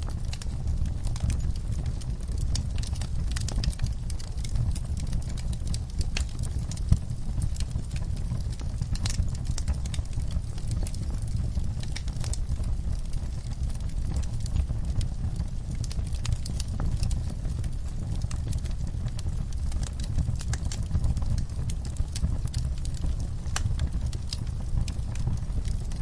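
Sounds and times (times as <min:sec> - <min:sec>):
logs crackling in fireplace: 0:00.0 - 0:26.0
low rumble of fire: 0:00.0 - 0:26.0.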